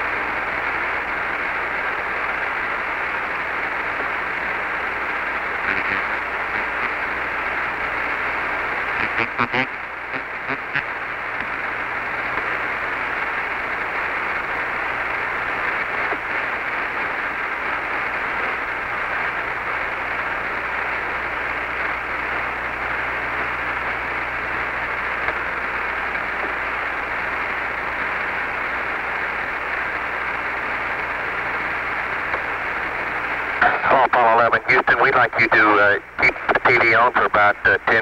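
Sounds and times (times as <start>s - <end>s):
low steady hum: 0.0s - 38.0s
radio static hissing: 0.0s - 38.0s.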